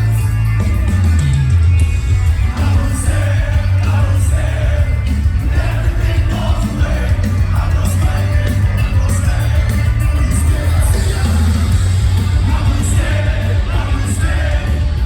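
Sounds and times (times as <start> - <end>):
live metal band playing: 0.0 - 15.0
vocals: 2.4 - 15.0.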